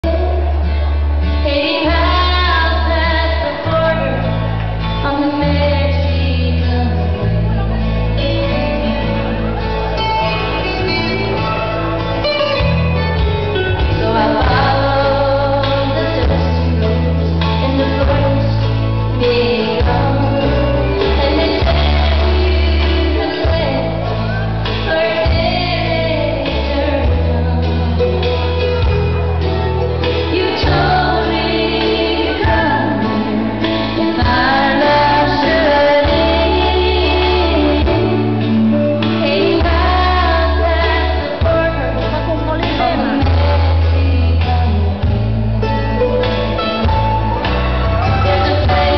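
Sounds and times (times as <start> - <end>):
song with singing and heavy bass: 0.0 - 48.9.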